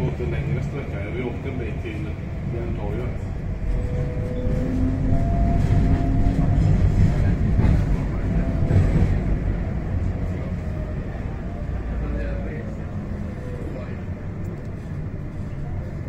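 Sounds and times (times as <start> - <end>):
tram rumble: 0.0 - 16.0.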